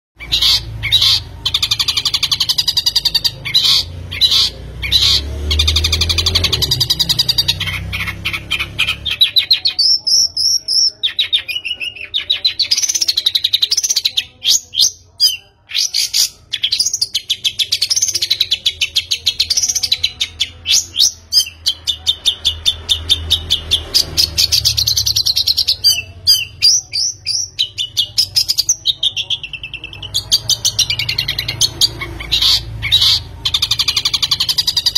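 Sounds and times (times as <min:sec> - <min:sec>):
bird singing rapid chirps: 0:00.2 - 0:34.9.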